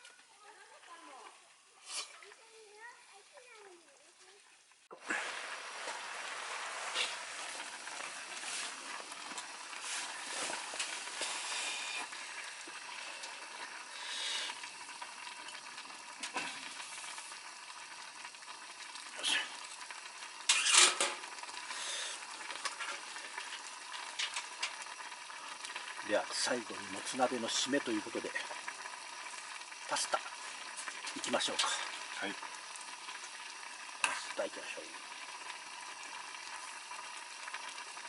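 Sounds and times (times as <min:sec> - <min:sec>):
stew sizzling and bubbling: 0:00.0 - 0:38.0.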